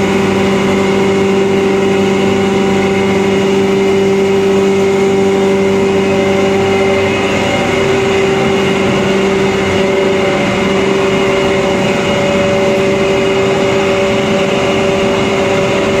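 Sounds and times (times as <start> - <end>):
blower noise: 0.0 - 16.0
grinding machine motor hum: 0.0 - 16.0.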